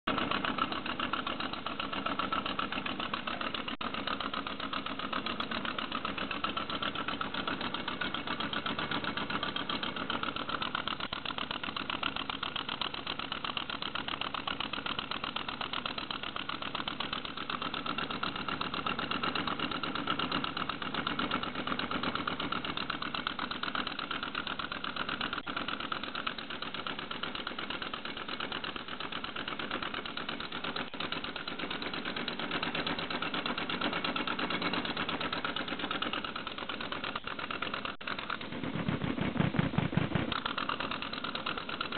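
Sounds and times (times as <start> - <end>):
mechanical clatter: 0.1 - 41.9
model steam engine air exhaust beats: 0.1 - 41.9.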